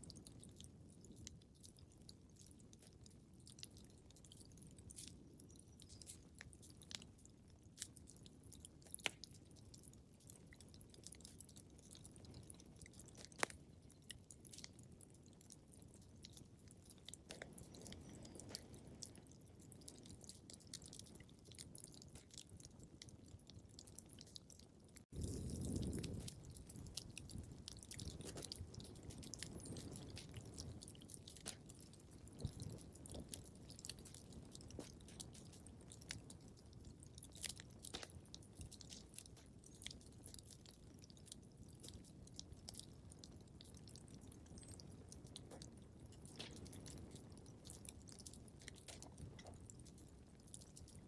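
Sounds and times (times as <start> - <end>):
fireplace fire crackling: 0.0 - 51.0
low rumble of flames: 0.0 - 51.0.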